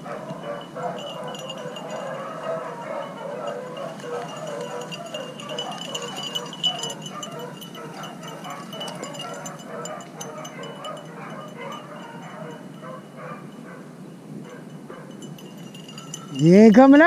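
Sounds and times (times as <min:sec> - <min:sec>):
dogs baying: 0:00.0 - 0:17.0
light metallic clinking: 0:00.0 - 0:17.0.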